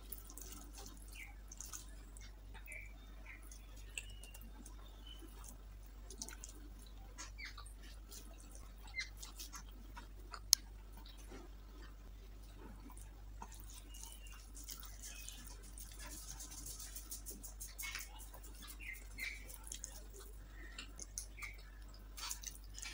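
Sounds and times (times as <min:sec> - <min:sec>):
fingers squishing rice: 0:00.0 - 0:22.9
person chewing: 0:00.0 - 0:22.9.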